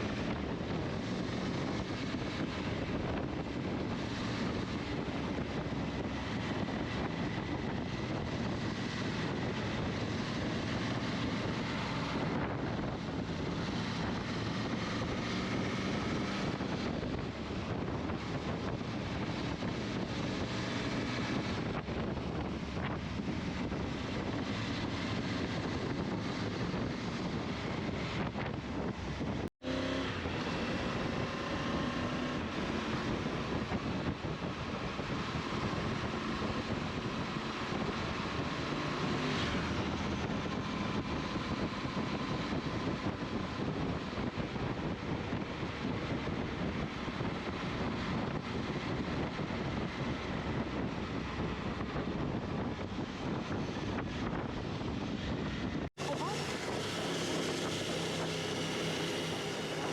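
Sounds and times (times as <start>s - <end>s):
vehicle engine running: 0.0s - 59.9s
wind noise on microphone: 0.0s - 59.9s.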